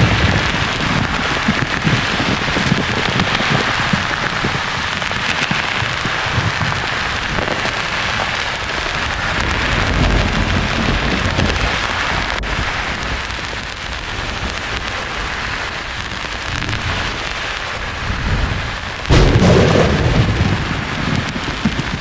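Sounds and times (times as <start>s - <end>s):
rain hiss: 0.0s - 22.0s
thunderclap rumbling: 0.0s - 22.0s.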